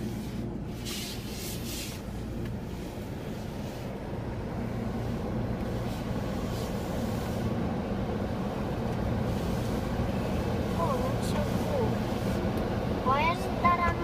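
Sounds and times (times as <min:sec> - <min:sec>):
car wash rumble: 0:00.0 - 0:14.0.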